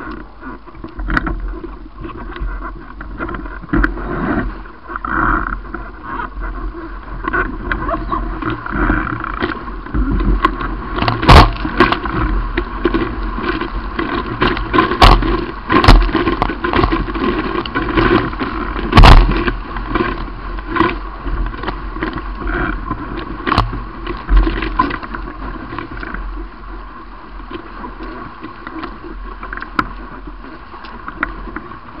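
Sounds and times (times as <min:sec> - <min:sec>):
water rushing against hulls: 0:00.0 - 0:32.0.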